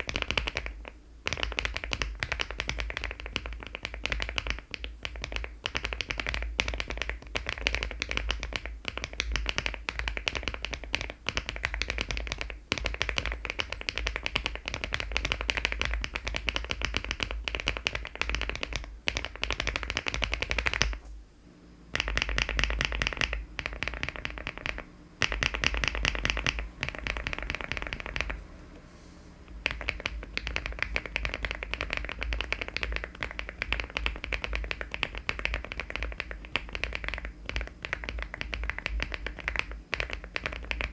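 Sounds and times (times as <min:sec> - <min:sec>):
fast typing on mechanical keyboard: 0:00.0 - 0:21.0, 0:21.9 - 0:28.5, 0:29.5 - 0:40.9.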